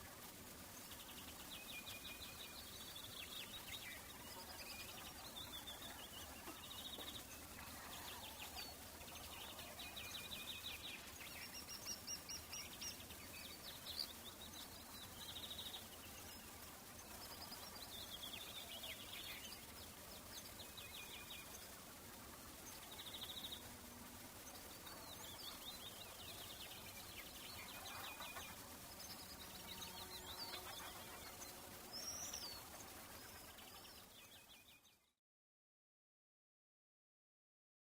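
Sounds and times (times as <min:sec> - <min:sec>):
faint background hiss: 0:00.0 - 0:35.2
songbirds chirping: 0:00.0 - 0:35.2.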